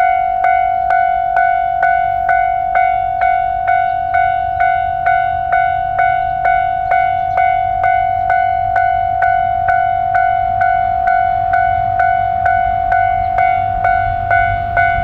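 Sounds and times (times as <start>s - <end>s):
level crossing warning bell: 0.0s - 15.0s
low steady rumble: 0.0s - 15.0s.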